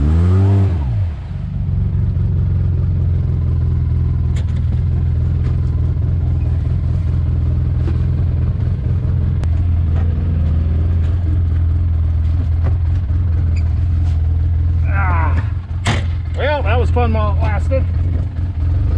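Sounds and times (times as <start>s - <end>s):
off-road vehicle engine running: 0.0s - 18.9s.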